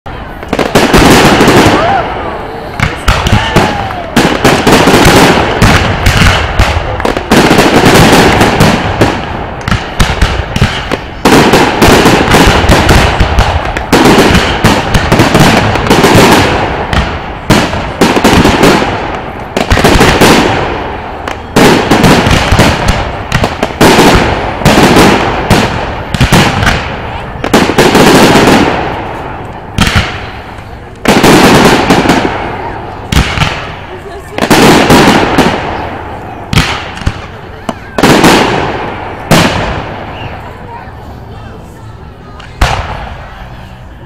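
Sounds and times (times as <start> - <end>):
fireworks bursting with sharp bangs: 0.0 - 44.0.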